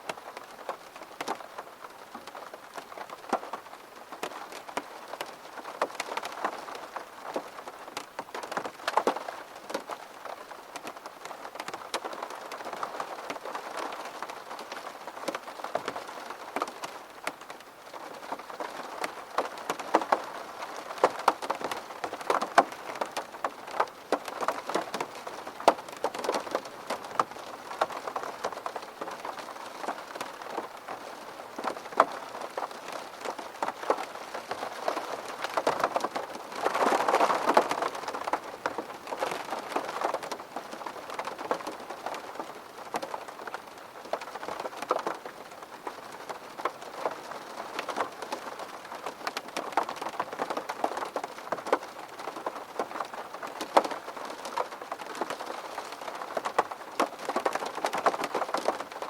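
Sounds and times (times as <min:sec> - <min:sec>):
rain drops tapping on surface: 0:00.0 - 0:59.0.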